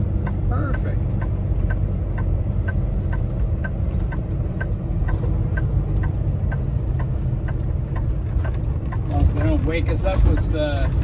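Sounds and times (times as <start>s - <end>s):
truck diesel engine running: 0.0s - 11.0s
turn signal ticking: 0.0s - 11.0s.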